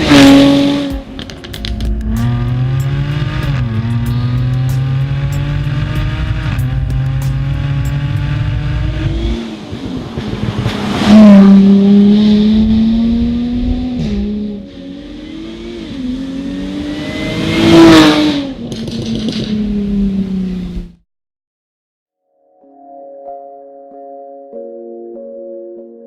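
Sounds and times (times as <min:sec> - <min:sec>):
car exhaust accelerating: 0:00.0 - 0:21.0.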